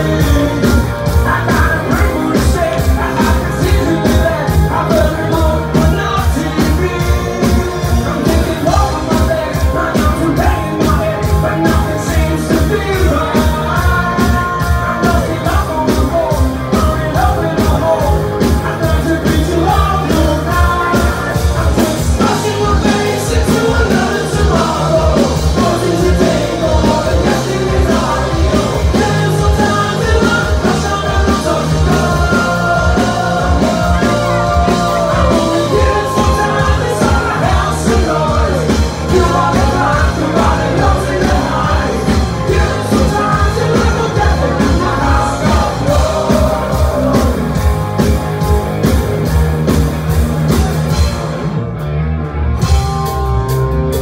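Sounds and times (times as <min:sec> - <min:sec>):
person singing lead vocal: 0:00.0 - 0:48.4
steady drum beat: 0:00.0 - 0:51.5
bass guitar: 0:00.0 - 0:54.0
electric guitars: 0:00.0 - 0:54.0.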